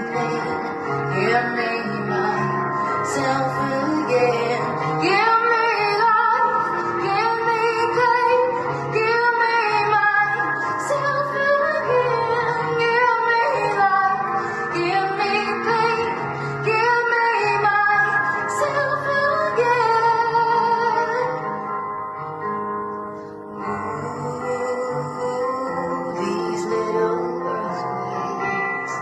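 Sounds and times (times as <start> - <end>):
woman singing: 0.0 - 21.6, 23.6 - 29.0.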